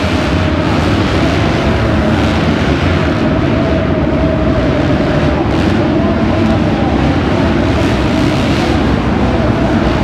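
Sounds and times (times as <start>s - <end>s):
dirt bike engines racing: 0.0s - 10.0s.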